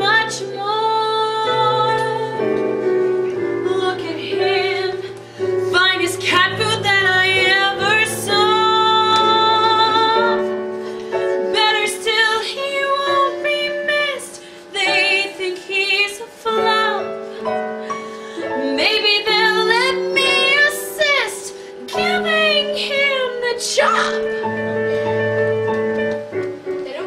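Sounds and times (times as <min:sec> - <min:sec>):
instrumental backing music: 0:00.0 - 0:27.0.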